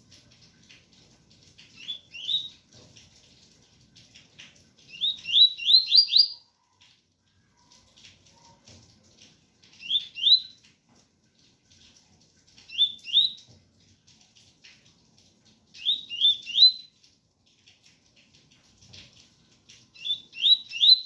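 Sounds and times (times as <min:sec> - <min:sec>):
faint rain patter: 0:00.0 - 0:21.0.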